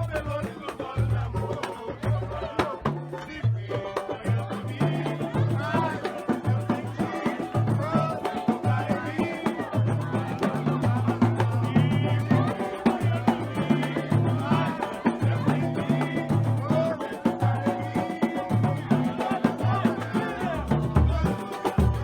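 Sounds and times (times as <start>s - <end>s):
samba band playing live: 0.0s - 22.0s.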